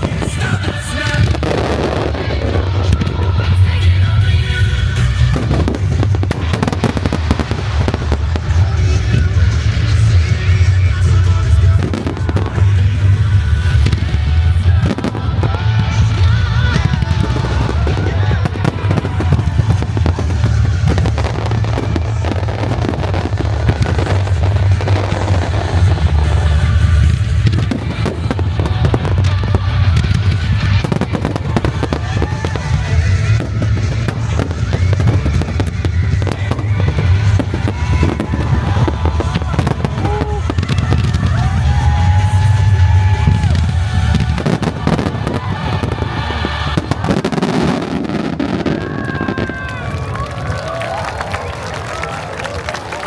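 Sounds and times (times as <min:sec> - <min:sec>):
low rumble: 0:00.0 - 0:47.1
music: 0:00.0 - 0:50.3
fireworks booming: 0:00.0 - 0:53.0
fireworks crackling: 0:00.0 - 0:53.0.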